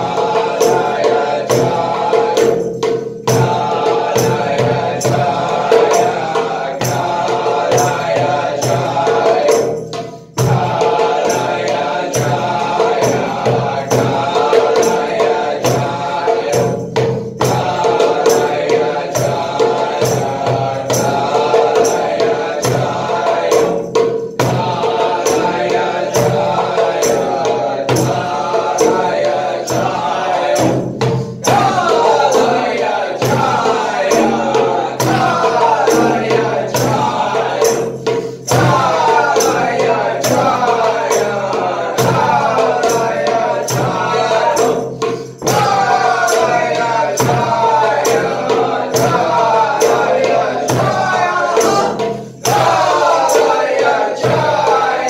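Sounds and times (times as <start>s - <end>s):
hand percussion beat: 0.0s - 55.0s
voices chanting: 0.0s - 55.0s.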